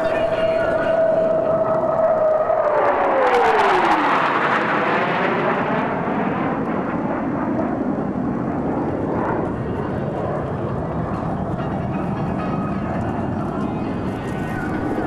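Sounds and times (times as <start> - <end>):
fighter jets flying over: 0.0 - 15.0.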